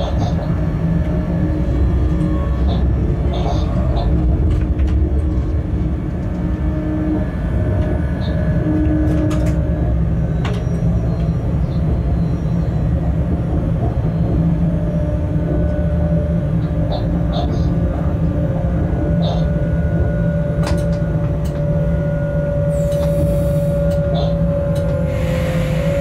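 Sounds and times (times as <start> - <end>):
locomotive equipment hum: 0.0 - 26.0
train wheels rumbling on rail: 0.0 - 26.0.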